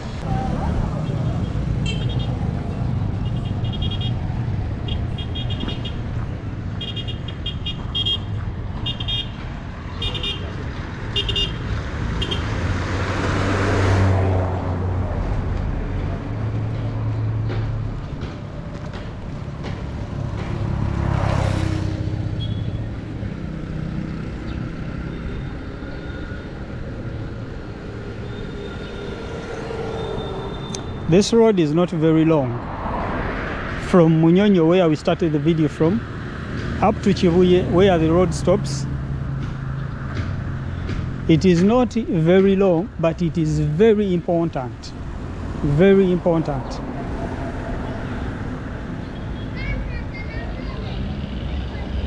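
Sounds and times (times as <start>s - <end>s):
traffic engines running: 0.0s - 52.0s
vehicles passing close by: 0.0s - 52.0s.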